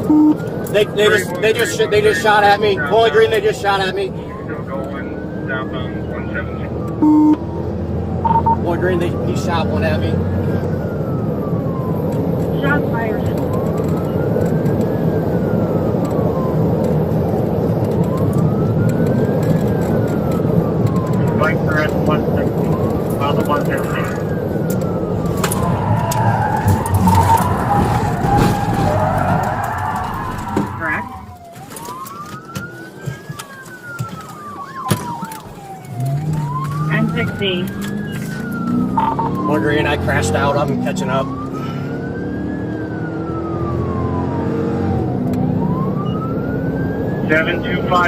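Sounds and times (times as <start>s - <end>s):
engine and road noise: 0.0s - 48.0s
police siren wailing: 0.0s - 48.0s.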